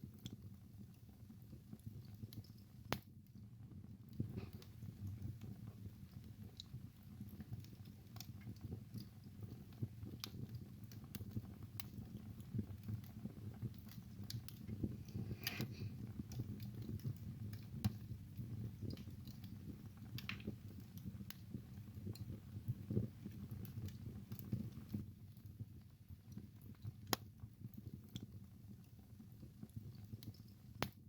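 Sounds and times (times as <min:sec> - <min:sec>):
fireplace fire crackling: 0:00.0 - 0:31.0.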